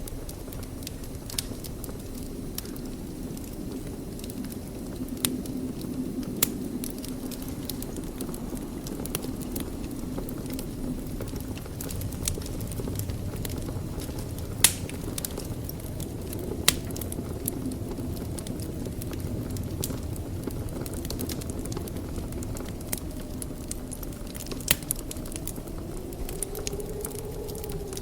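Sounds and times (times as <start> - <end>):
wood fire crackling in fireplace: 0.0 - 28.0.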